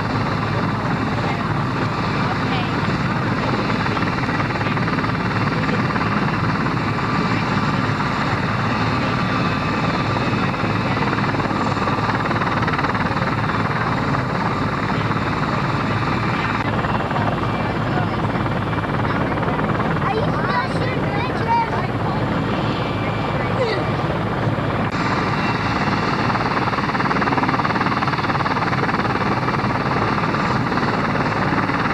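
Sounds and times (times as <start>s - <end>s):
helicopter rotor and turbine: 0.0s - 31.9s.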